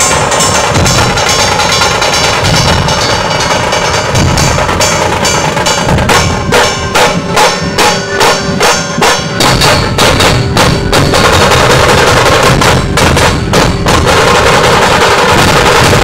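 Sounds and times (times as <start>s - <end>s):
deep barrel drum beats: 0.0s - 16.0s
kettle drums struck with sticks: 0.0s - 16.0s.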